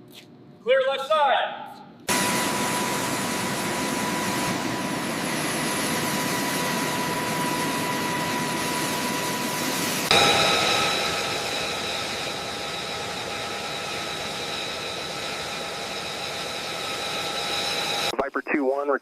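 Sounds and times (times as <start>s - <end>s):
aircraft turbine engine running: 2.1s - 18.1s.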